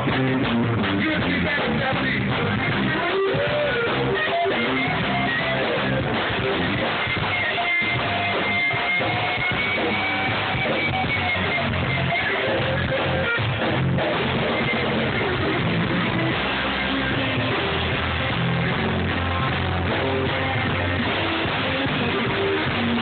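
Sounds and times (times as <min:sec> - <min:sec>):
drum kit: 0:00.0 - 0:23.0
electric bass: 0:00.0 - 0:23.0
electric guitar: 0:00.0 - 0:23.0.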